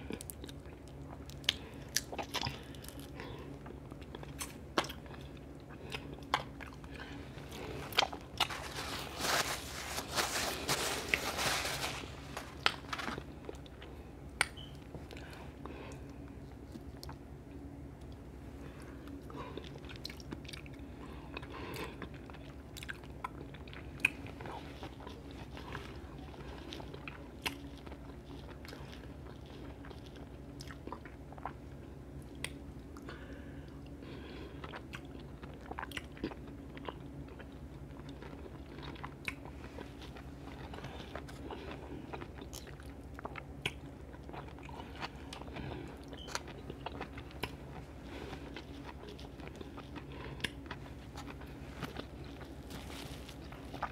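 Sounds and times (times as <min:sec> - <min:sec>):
person chewing food: 0:00.0 - 0:17.3, 0:18.0 - 0:53.9.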